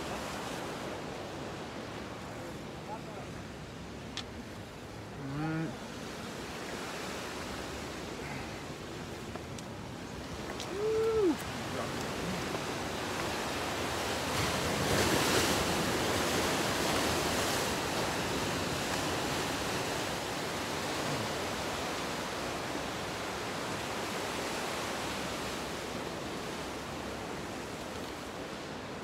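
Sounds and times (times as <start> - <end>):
ocean surf washing on rocks: 0.0 - 29.0.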